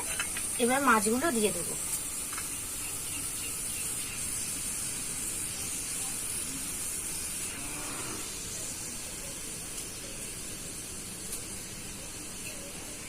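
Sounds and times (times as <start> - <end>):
gravy boiling with a hiss: 0.0 - 13.0.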